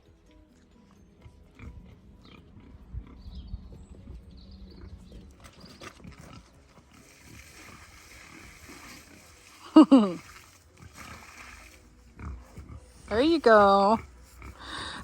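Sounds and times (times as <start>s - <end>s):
pigs grunting: 1.2s - 3.4s, 4.7s - 15.0s.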